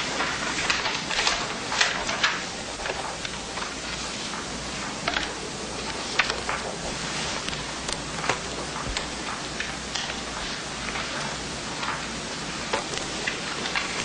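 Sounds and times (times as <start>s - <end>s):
pens scratching on paper: 0.0s - 14.0s.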